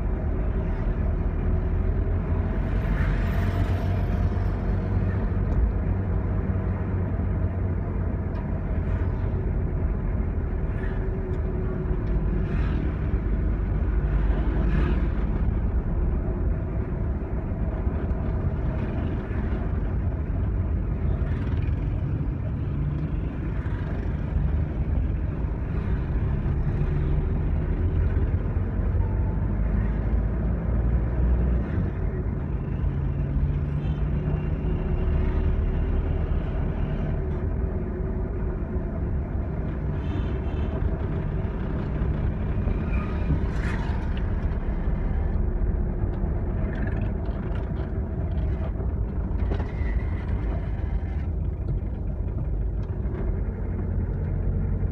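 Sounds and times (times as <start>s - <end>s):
vehicle engine rumbling: 0.0s - 54.9s.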